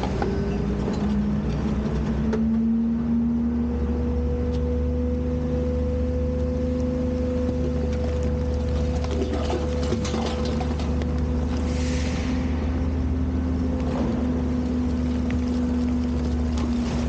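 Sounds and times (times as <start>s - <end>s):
garbage truck engine rumbling: 0.0s - 17.0s.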